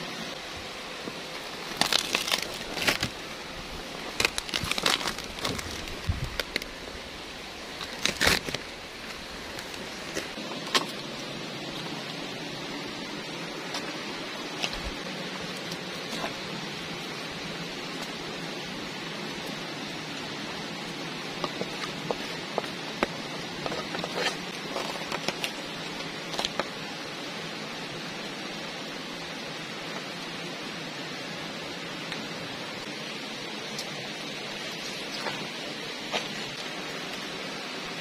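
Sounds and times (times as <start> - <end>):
leaf rustling and crackling: 0.0 - 30.7
steady background hiss: 0.0 - 38.0.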